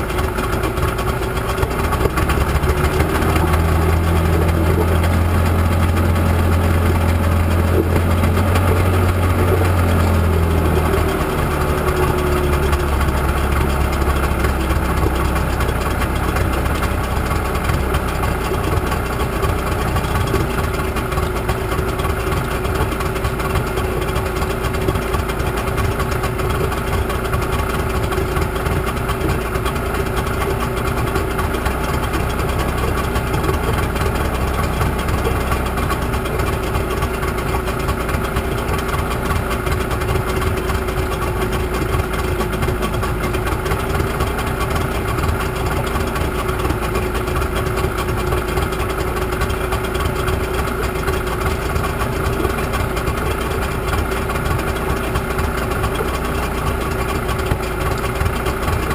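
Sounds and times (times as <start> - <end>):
outboard motor idling: 0.0 - 58.9.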